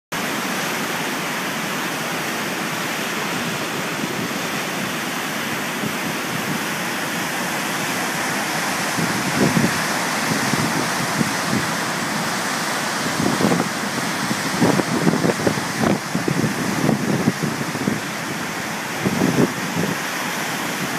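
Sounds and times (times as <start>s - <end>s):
waterfall rushing: 0.2s - 20.9s.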